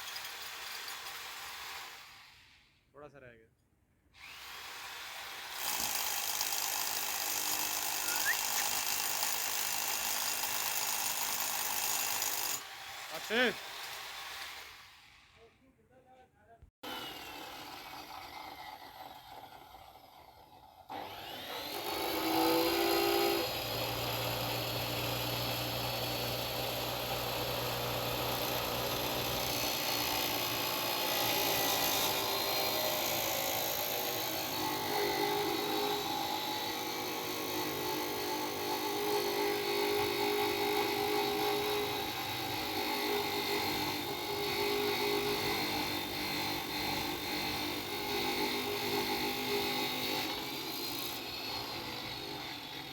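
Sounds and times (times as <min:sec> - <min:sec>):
electric drill grinding into concrete: 0:04.2 - 0:15.3, 0:16.8 - 0:52.9.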